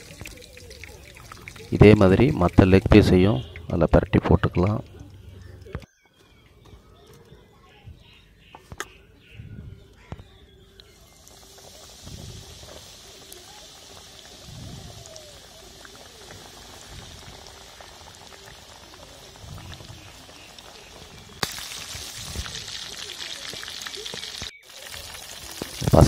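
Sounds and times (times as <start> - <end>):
chicken deep-frying in oil: 0.0 - 5.8, 10.5 - 26.0.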